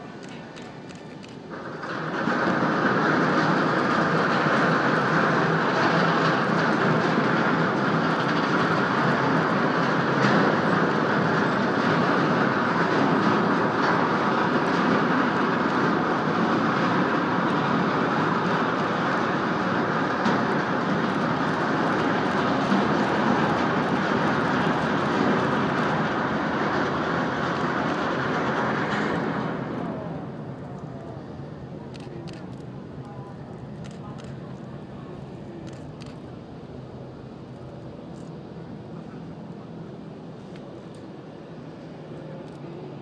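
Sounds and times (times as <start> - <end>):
ship hull heavy rumble: 1.4 - 40.4.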